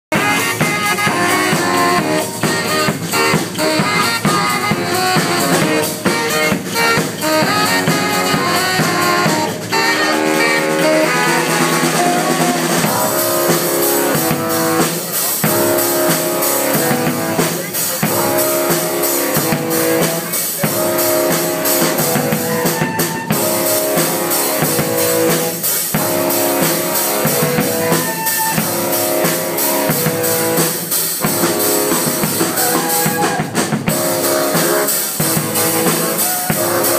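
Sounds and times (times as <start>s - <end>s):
drum kit beat: 0.0s - 36.9s
saxophones playing funk: 0.0s - 36.9s.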